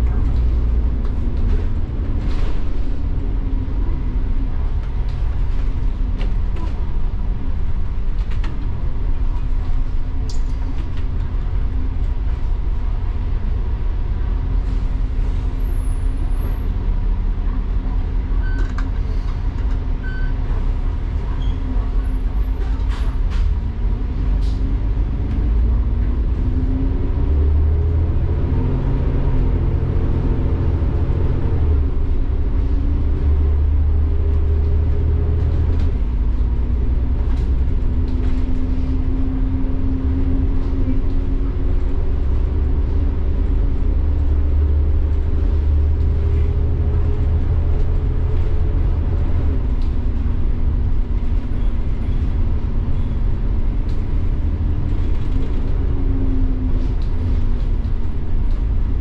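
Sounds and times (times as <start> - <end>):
diesel bus engine rumbling: 0.0 - 59.0
road noise: 0.0 - 59.0.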